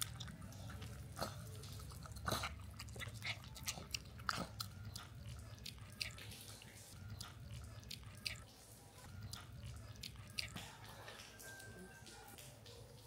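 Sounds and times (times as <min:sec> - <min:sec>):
piglet smacking and chewing: 0:00.0 - 0:13.0.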